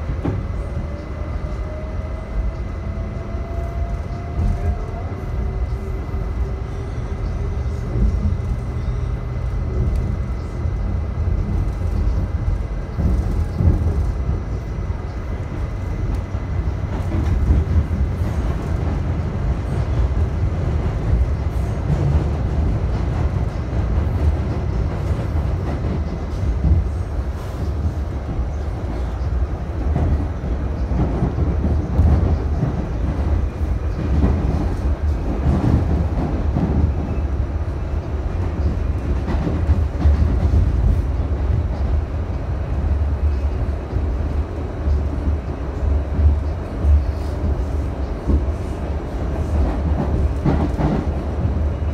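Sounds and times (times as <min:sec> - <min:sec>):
subway wheels rumbling on track: 0:00.0 - 0:51.9.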